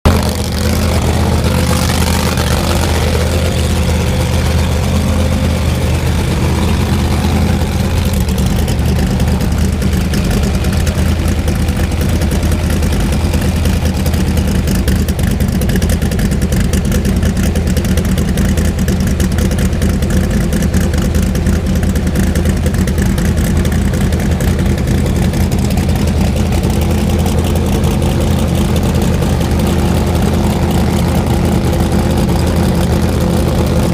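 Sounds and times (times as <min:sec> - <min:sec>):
racing engines idling: 0:00.0 - 0:33.9.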